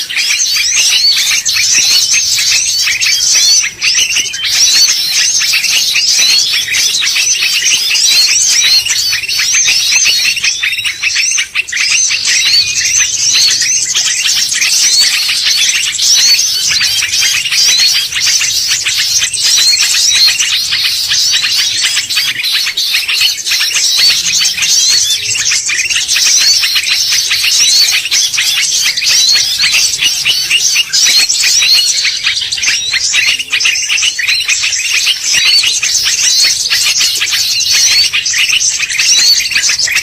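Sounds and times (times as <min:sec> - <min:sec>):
bird rapid high chirping: 0:00.0 - 0:40.0.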